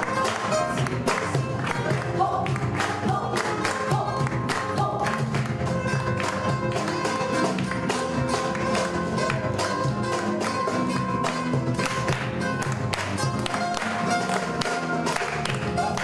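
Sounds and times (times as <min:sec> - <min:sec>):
acoustic guitars playing: 0:00.0 - 0:16.0
hand percussion beat: 0:00.0 - 0:16.0.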